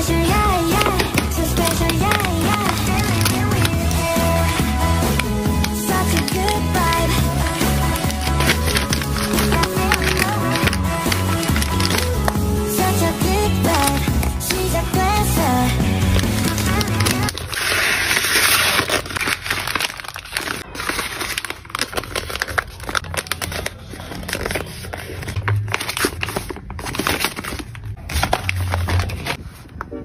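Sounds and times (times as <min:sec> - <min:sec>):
plastic mailer bag crinkling: 0:00.0 - 0:29.4.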